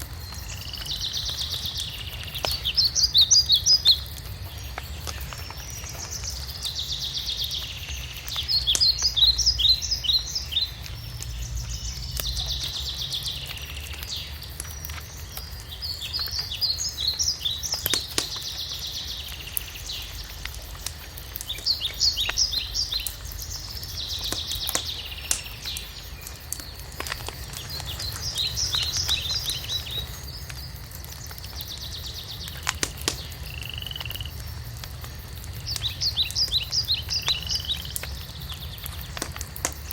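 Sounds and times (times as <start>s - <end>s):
songbird singing: 0.0s - 39.9s
wood fire crackling: 0.0s - 39.9s.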